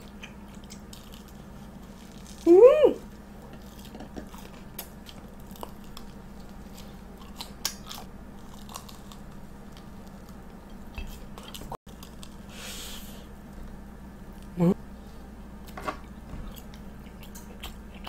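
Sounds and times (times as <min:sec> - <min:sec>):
chewing and crunching food: 0:00.0 - 0:14.6, 0:15.6 - 0:18.0.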